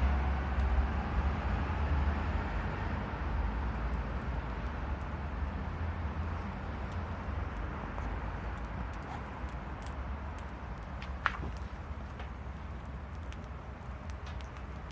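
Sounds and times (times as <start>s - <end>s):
fire crackling: 0.0s - 14.9s
wood fire rumbling: 0.0s - 14.9s.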